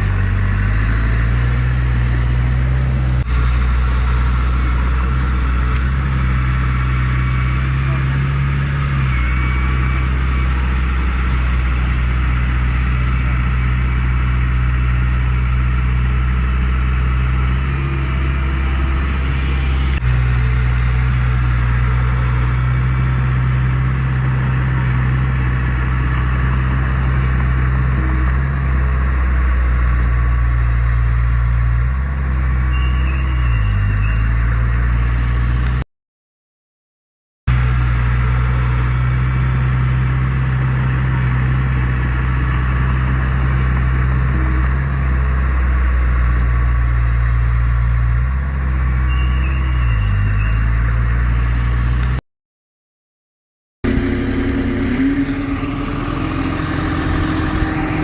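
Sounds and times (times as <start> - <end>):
heavy diesel engine running: 0.0 - 35.8, 37.5 - 52.2, 53.8 - 58.0.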